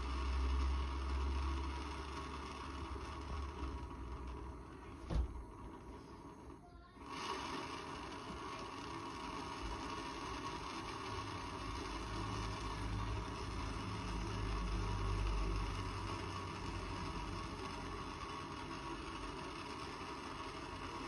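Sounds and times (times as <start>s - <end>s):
propane torch flame hissing: 0.0s - 21.0s.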